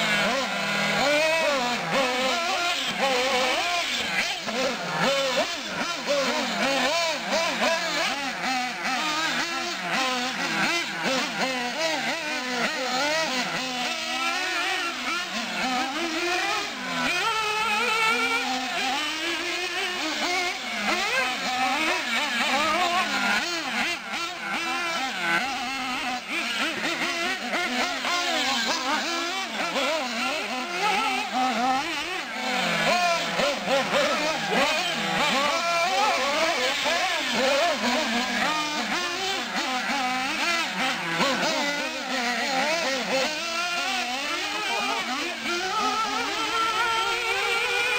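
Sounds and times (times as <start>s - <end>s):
small nitro engines revving: 0.0s - 47.9s.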